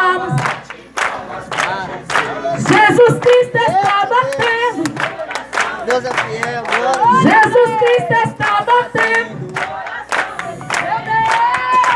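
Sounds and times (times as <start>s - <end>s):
congregation singing: 0.0s - 11.9s
hand clapping: 0.0s - 11.9s.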